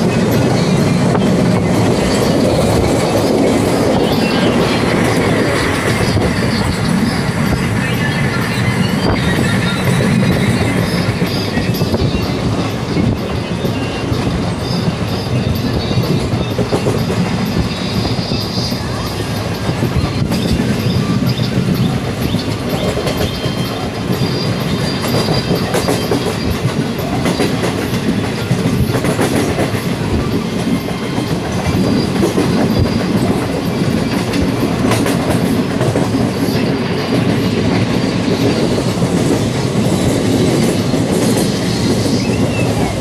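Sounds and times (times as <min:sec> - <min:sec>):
train rumbling on rails: 0:00.0 - 0:43.0
wheels clicking and clattering: 0:00.0 - 0:43.0.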